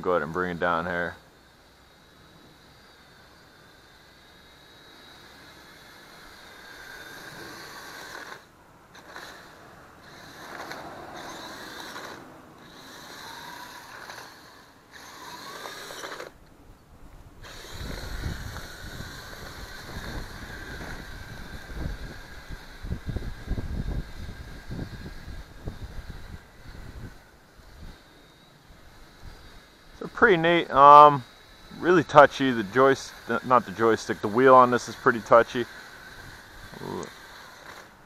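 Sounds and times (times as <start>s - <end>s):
electric motor whining: 0.0s - 16.5s, 17.4s - 38.0s.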